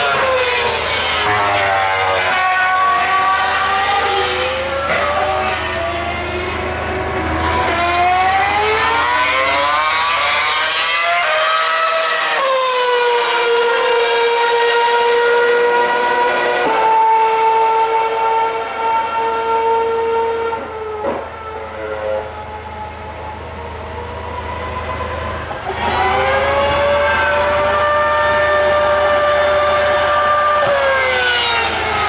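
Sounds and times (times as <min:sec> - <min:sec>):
racing car engine passing: 0:00.0 - 0:32.0.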